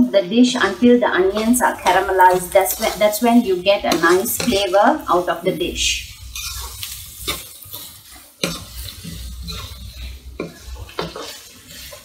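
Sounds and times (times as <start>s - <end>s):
onions sizzling in oil: 0.6s - 12.0s
spatula scraping a pan: 0.6s - 12.0s.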